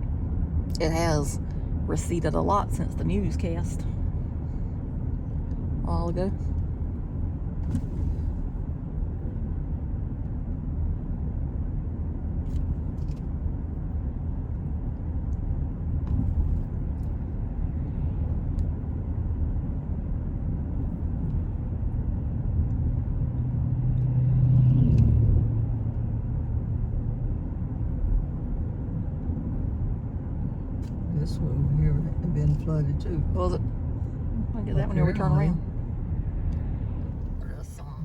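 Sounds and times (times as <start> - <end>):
car road and engine rumble: 0.0 - 38.0.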